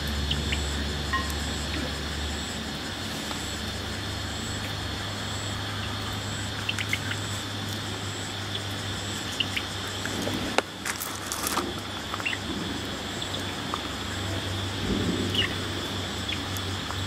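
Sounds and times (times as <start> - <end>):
insect calling in high pulses: 0.0 - 17.0
steady low hum: 0.0 - 17.0.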